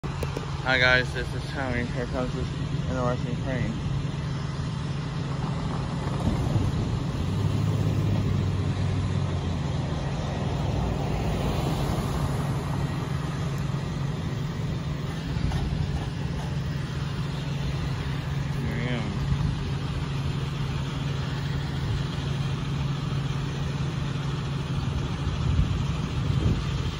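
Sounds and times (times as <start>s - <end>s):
cars driving over crossing: 0.0s - 26.9s
low engine hum: 0.0s - 26.9s.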